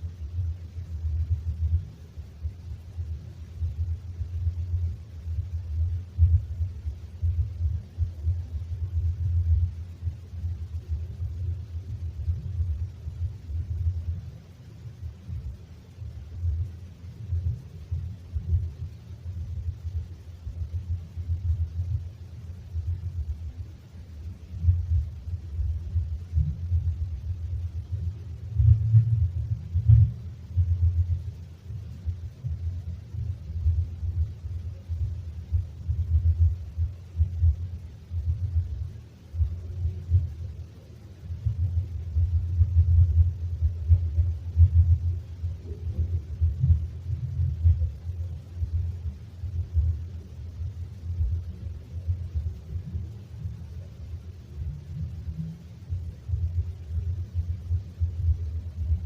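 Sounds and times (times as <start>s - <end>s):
low loud rumbling: 0.0s - 59.0s.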